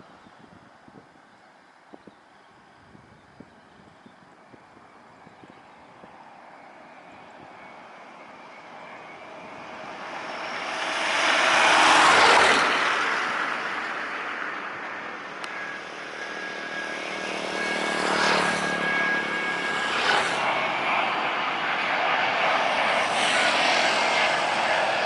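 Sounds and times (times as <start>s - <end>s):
jet engine roar: 2.5s - 25.0s
thin jet whine: 3.5s - 25.0s.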